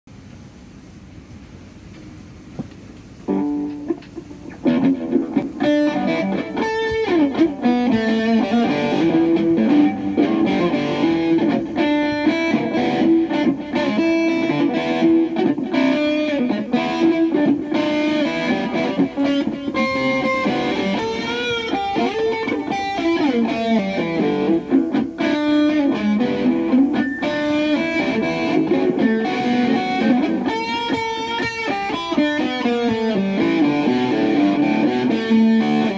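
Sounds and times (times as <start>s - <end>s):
overdriven electric guitar blues: 2.6s - 35.9s.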